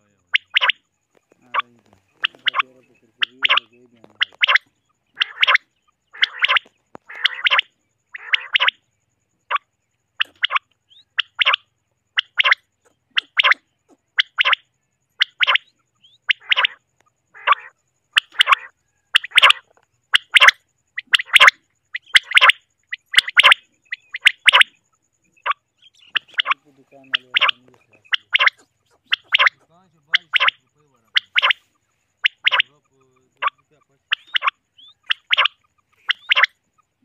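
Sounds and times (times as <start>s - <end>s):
quail calling: 0.0s - 37.0s.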